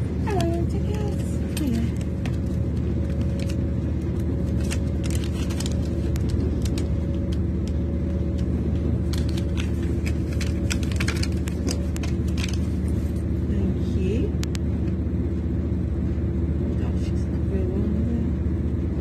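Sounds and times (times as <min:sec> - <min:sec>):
faint steady whine: 0:00.0 - 0:19.0
train low rumble: 0:00.0 - 0:19.0.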